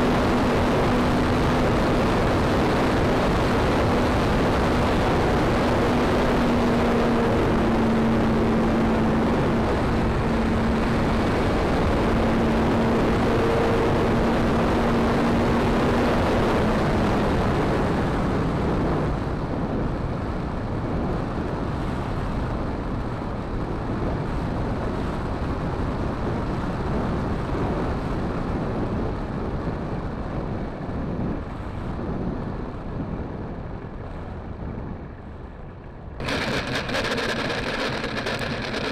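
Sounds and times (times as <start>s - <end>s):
model plane engine and propeller: 0.0s - 29.2s, 30.0s - 38.9s
wind rush: 0.0s - 35.2s.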